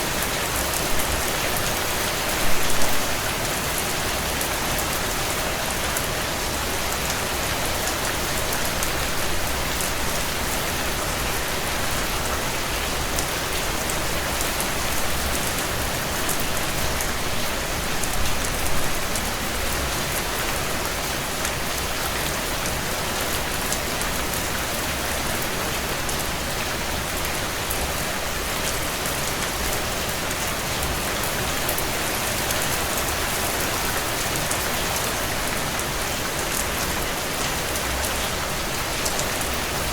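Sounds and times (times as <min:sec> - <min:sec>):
heavy rain on window panes: 0:00.0 - 0:39.9.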